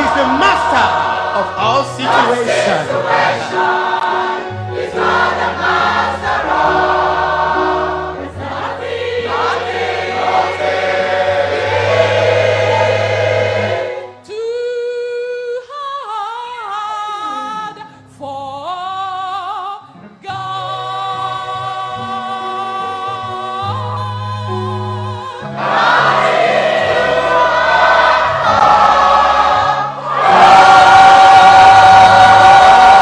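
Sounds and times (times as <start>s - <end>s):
gospel choir singing: 0.0s - 17.8s, 18.8s - 33.0s.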